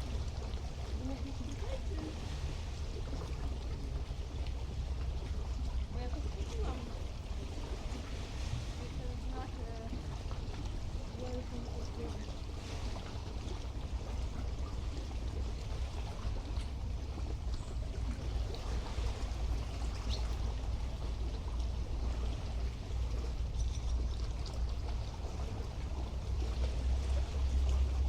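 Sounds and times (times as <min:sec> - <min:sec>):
waves lapping at shore: 0:00.0 - 0:28.0.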